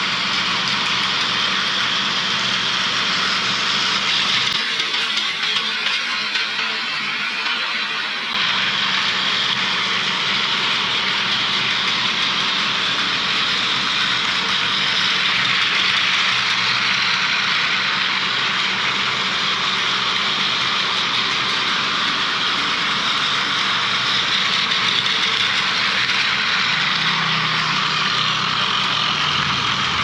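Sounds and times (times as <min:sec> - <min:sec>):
toy train motor whine: 0:00.0 - 0:30.0
toy train wheels rattling: 0:00.0 - 0:30.0.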